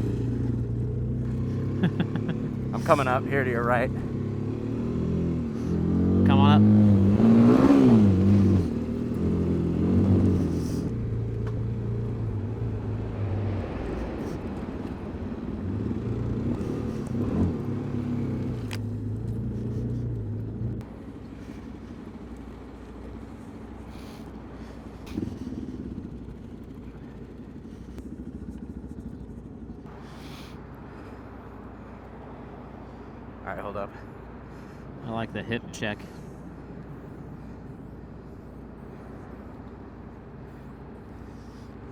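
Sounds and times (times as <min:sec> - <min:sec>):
motorcycle engine running: 0:00.0 - 0:34.7.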